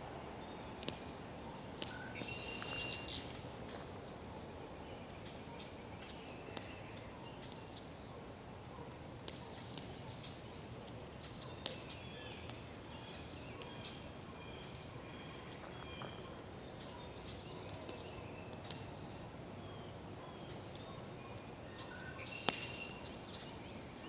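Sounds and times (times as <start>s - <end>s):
songbirds chirping: 0.0s - 24.0s
steady background hiss: 0.0s - 24.0s
campfire popping: 0.7s - 8.1s, 8.9s - 21.0s, 21.7s - 24.0s.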